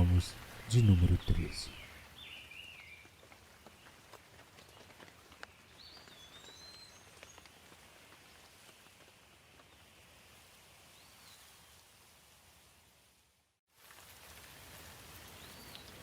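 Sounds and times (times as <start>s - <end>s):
soft rain patter: 0.0s - 16.0s.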